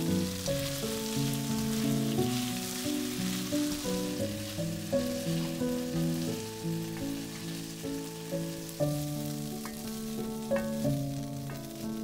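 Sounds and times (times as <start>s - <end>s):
meat sizzling in oil: 0.0s - 12.0s
slow melodic background music: 0.0s - 12.0s.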